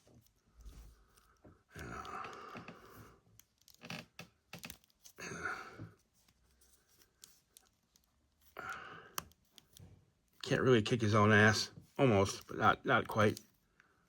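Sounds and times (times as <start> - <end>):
plastic figure rustling: 0.0 - 14.0.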